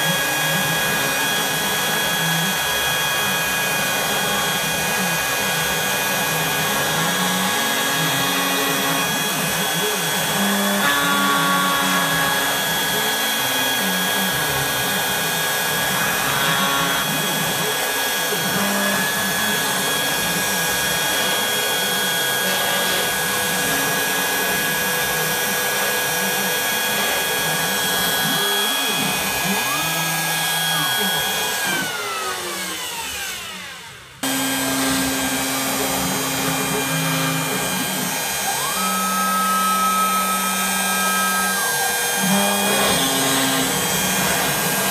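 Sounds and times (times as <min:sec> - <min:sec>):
router spindle whining: 0:00.0 - 0:44.9.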